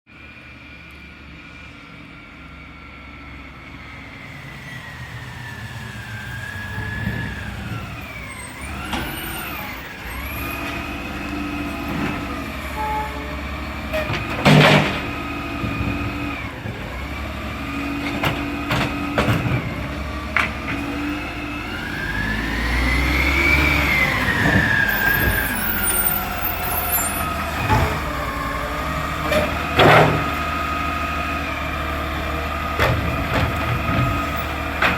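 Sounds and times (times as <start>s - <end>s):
garbage truck running: 0.2s - 34.9s.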